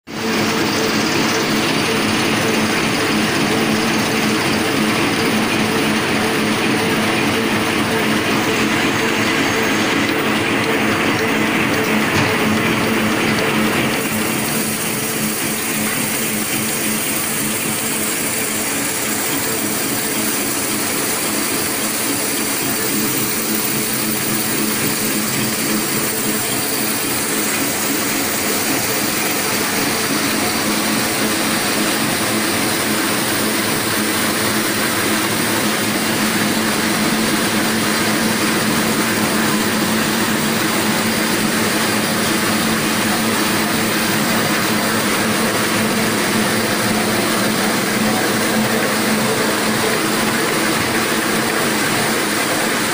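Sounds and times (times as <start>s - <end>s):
napkin machine running: 0.1s - 52.9s
low machine hum: 0.2s - 52.9s.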